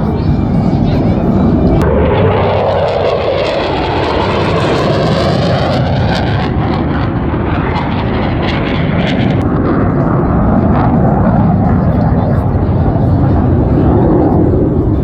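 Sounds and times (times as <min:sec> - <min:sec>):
jet flying past: 0:00.0 - 0:15.0.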